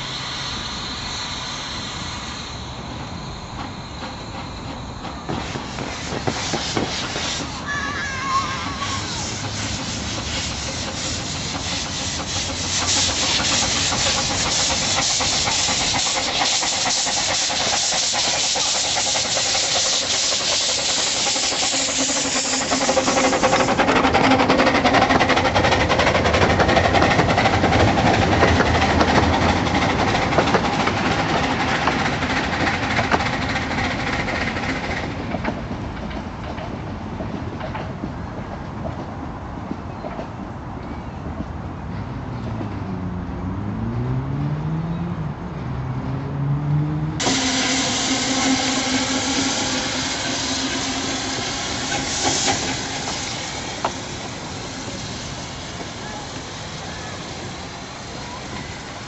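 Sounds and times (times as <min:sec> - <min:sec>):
steam locomotive hissing steam: 0:00.0 - 0:37.8, 0:47.2 - 0:59.0.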